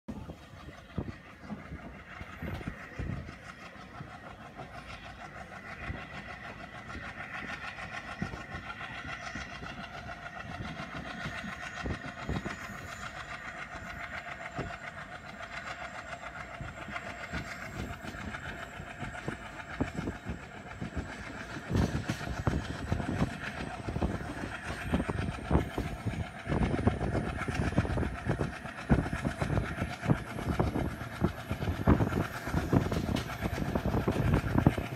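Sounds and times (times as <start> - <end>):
train rumble: 0.1 - 34.9
wheels clicking over rail joints: 0.1 - 34.9.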